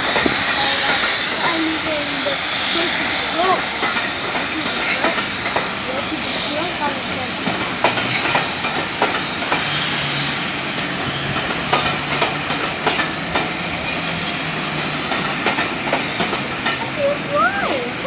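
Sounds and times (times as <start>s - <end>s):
train coaches rumbling: 0.0s - 18.0s
train wheels clicking over rail joints: 0.0s - 18.0s.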